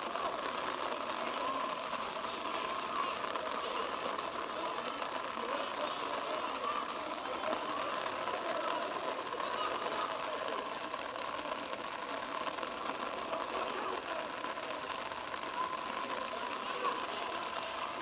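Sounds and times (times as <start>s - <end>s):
distant players shouting: 0.0s - 18.0s.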